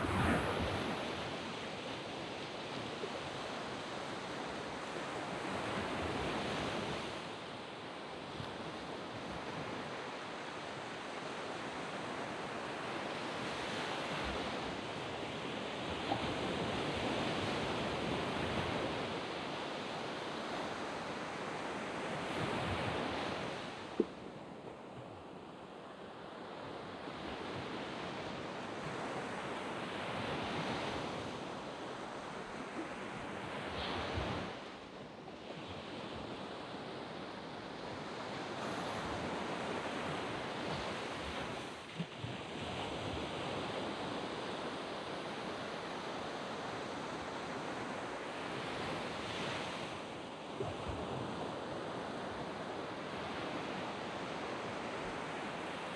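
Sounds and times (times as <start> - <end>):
small waves breaking on beach: 0.0 - 55.9.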